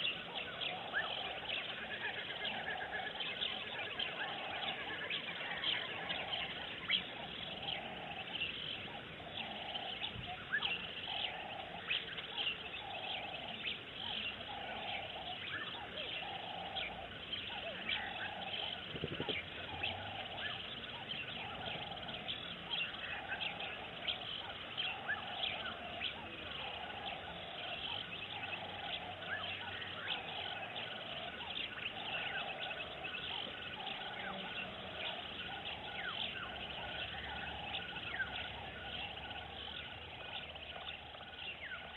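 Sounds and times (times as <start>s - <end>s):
low repeating bird call: 0.0s - 41.9s
small birds chirping: 0.0s - 41.9s.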